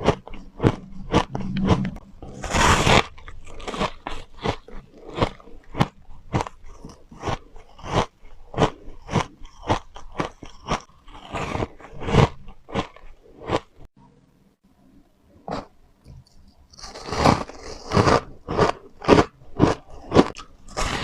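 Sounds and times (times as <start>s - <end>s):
ice being bitten and chewed: 0.0s - 13.9s, 15.6s - 21.0s.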